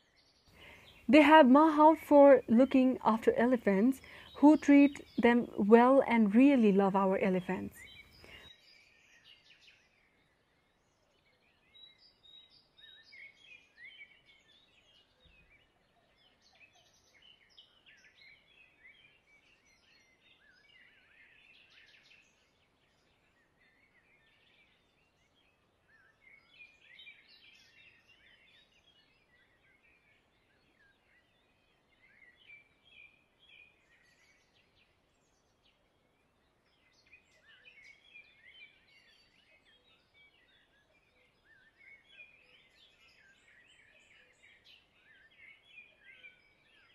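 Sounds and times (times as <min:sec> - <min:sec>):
faint birds chirping: 0:00.0 - 0:46.9.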